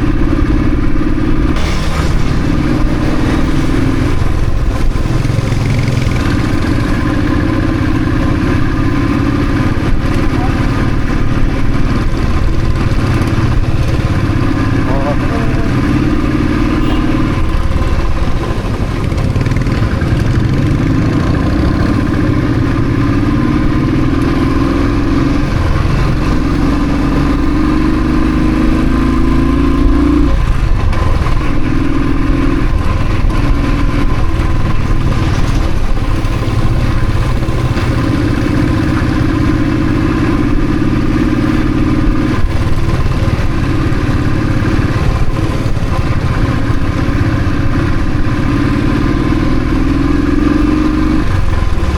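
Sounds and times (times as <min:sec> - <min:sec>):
motorcycle engine revving through gears: 0:00.0 - 0:51.9.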